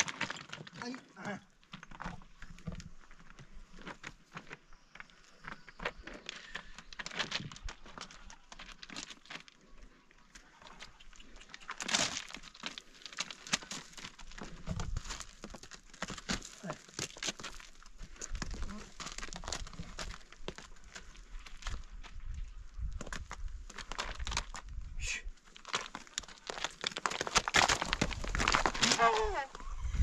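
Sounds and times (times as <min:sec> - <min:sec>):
rustling and crackling: 0:00.0 - 0:24.8, 0:25.4 - 0:30.0.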